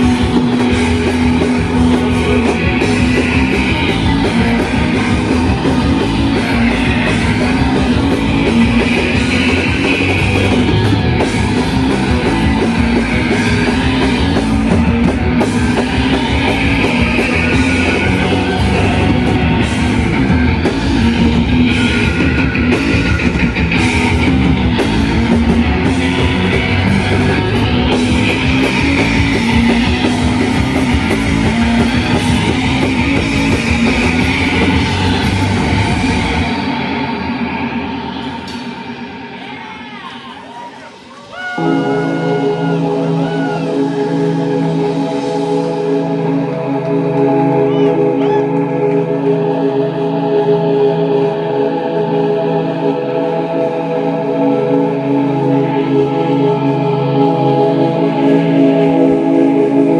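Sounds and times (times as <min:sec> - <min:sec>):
bass guitar: 0:00.0 - 0:39.6, 0:41.2 - 0:59.9
drum kit: 0:00.0 - 0:50.7
distorted electric guitars: 0:00.0 - 0:59.9.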